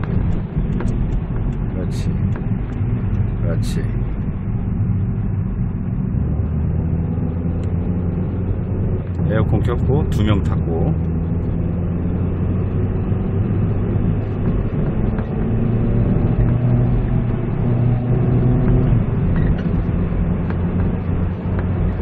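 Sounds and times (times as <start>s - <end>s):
car engine hum: 0.0s - 22.0s
tyre and road noise: 0.0s - 22.0s.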